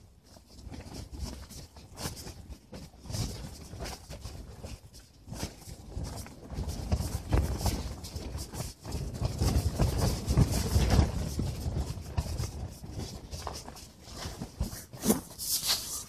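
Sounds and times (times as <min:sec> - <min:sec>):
fabric walls flapping in wind: 0:00.0 - 0:16.0.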